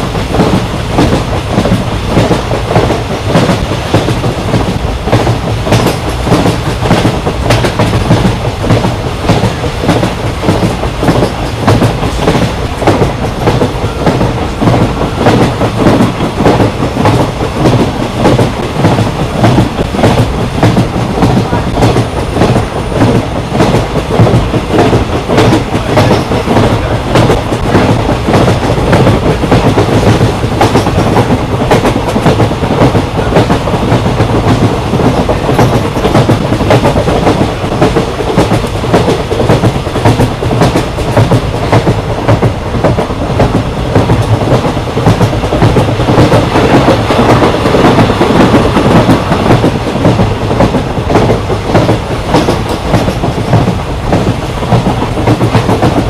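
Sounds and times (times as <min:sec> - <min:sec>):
train coach rumbling and rattling: 0:00.0 - 0:56.0.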